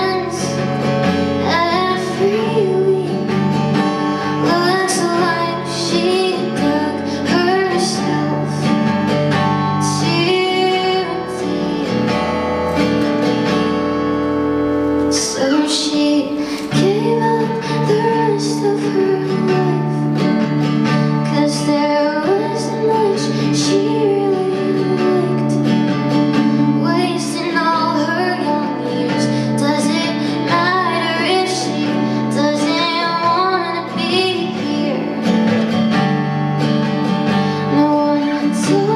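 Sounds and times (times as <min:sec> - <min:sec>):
woman singing: 0:00.0 - 0:12.5, 0:15.0 - 0:35.7, 0:37.0 - 0:38.9
guitar accompaniment: 0:00.0 - 0:38.9.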